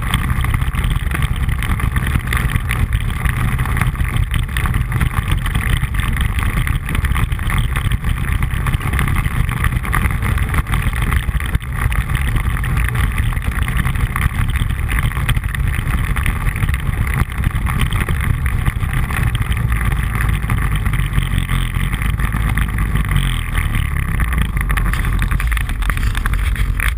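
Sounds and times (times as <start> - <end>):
quad engine running: 0.0 - 26.9.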